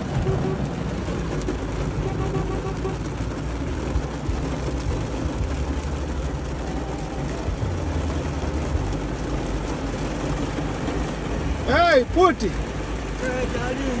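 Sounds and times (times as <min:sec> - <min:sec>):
car low rumble: 0:00.0 - 0:14.0
heavy rain on car roof: 0:00.0 - 0:14.0.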